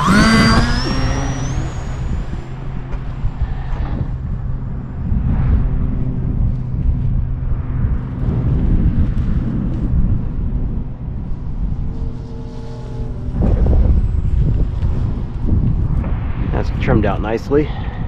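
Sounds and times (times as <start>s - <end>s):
model plane motor whine: 0.0s - 16.0s
wind buffeting microphone: 0.0s - 18.0s.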